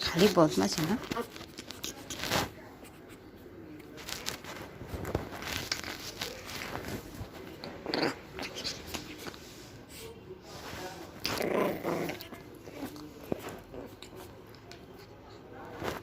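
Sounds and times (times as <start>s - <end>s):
soft rustling and crinkling: 0.0s - 11.4s, 12.1s - 16.0s.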